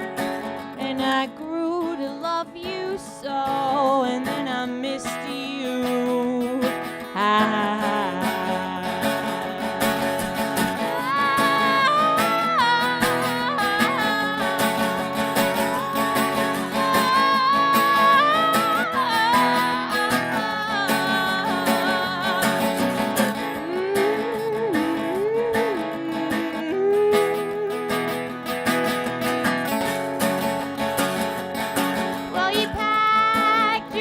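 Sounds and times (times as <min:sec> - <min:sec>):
strummed acoustic guitar: 0:00.0 - 0:34.0.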